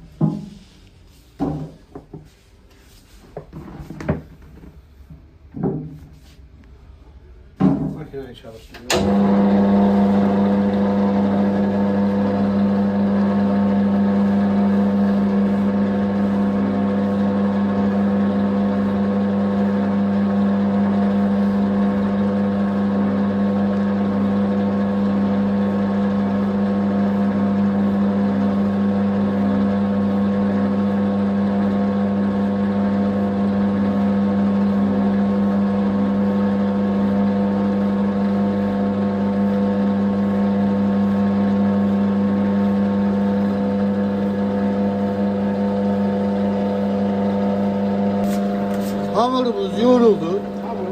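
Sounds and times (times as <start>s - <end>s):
dough mixer humming: 9.0s - 50.9s.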